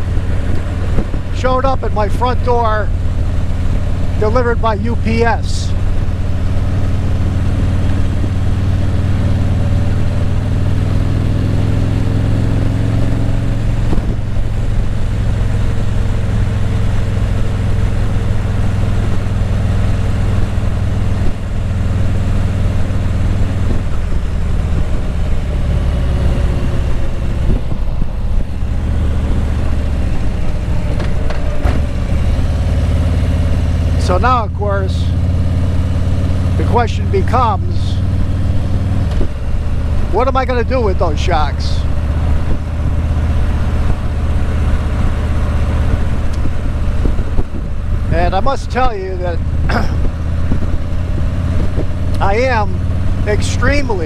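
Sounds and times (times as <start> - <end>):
motorcycle engine droning: 0.0 - 54.0.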